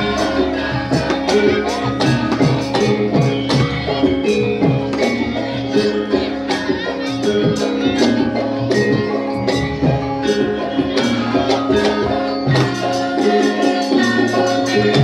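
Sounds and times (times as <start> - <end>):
regular percussion strokes: 0.0 - 15.0.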